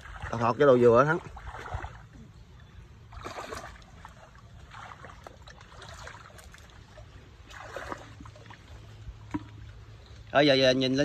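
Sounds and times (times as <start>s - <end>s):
hands sloshing in water: 0.0s - 10.2s.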